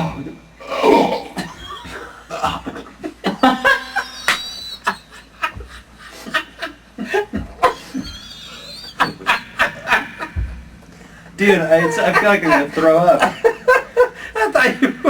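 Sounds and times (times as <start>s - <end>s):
people laughing: 1.4s - 10.6s, 11.4s - 15.0s.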